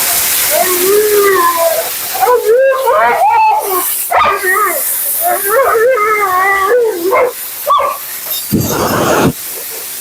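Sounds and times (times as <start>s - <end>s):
blow dryer hiss: 0.0s - 10.0s
dog howl-whining: 0.5s - 9.4s.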